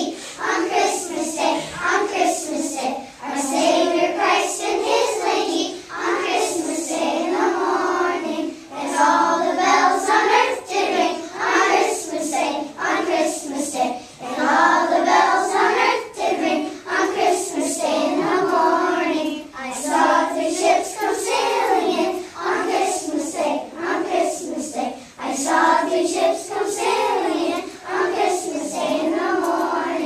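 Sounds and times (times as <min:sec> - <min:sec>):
children singing in unison: 0:00.0 - 0:30.0.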